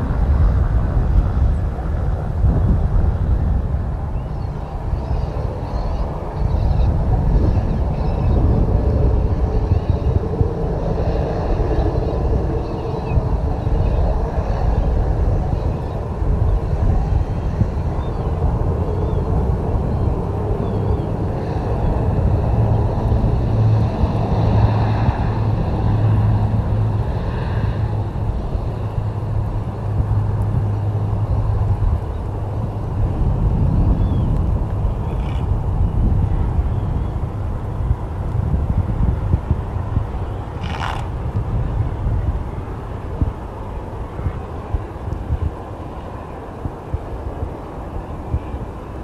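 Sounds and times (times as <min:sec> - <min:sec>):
propeller drone: 0:00.0 - 0:49.0
turboprop engines running: 0:00.0 - 0:49.0.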